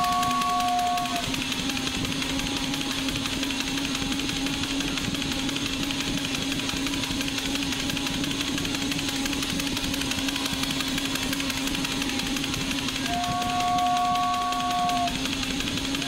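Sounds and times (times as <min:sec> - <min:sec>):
clatter of toy train wheels: 0:00.0 - 0:16.0
toy train motor hum: 0:00.0 - 0:16.0.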